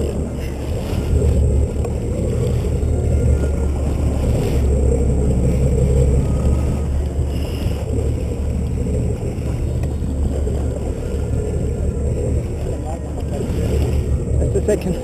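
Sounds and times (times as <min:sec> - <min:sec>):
motorboat engine droning: 0:00.0 - 0:15.0
wind and sea hiss: 0:00.0 - 0:15.0.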